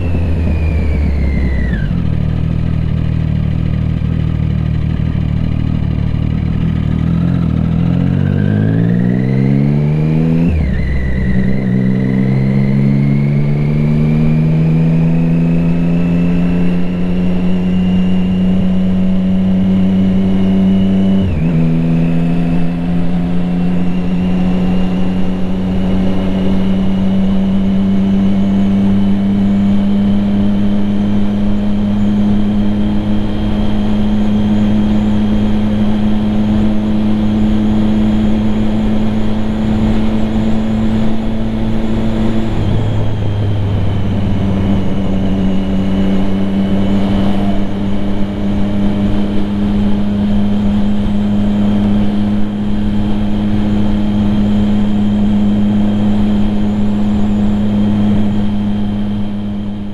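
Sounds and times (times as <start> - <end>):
motorcycle engine revving through gears: 0.0 - 59.9.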